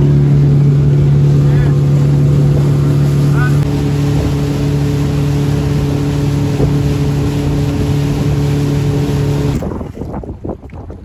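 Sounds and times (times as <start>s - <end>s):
motorboat engine running: 0.0s - 11.0s
water rushing past: 0.0s - 11.0s
water splashing against boat: 0.0s - 11.0s
wind on microphone: 0.0s - 11.0s.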